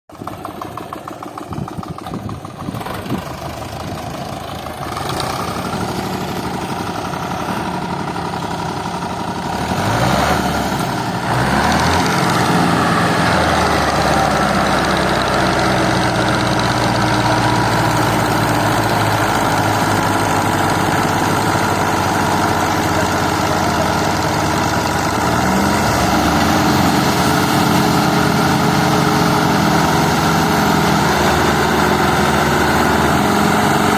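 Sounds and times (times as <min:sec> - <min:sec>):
diesel tractor engine revving: 0:00.1 - 0:33.9.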